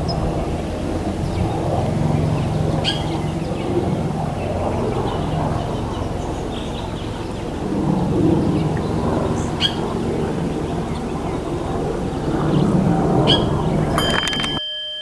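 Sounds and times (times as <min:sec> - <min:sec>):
low outdoor rumble: 0:00.0 - 0:14.6.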